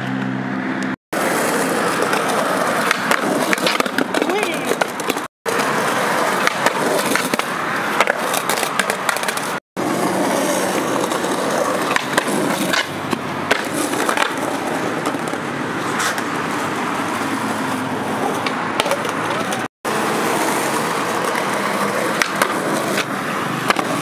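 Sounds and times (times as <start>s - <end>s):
skateboard wheels rumbling on concrete: 0.0s - 24.0s
skateboard clacks: 1.2s - 24.0s.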